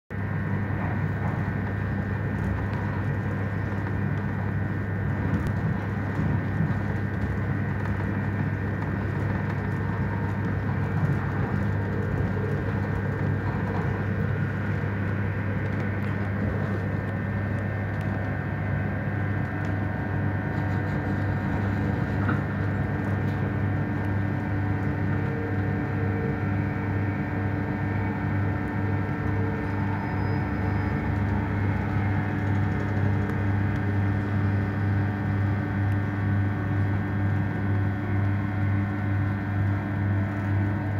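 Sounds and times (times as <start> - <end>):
train wheels rumbling: 0.2 - 40.9.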